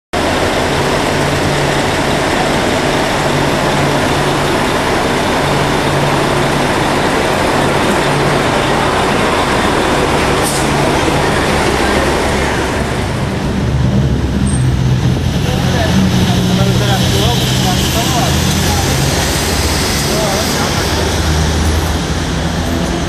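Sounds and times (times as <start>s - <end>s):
coach engine idling: 0.1s - 23.0s.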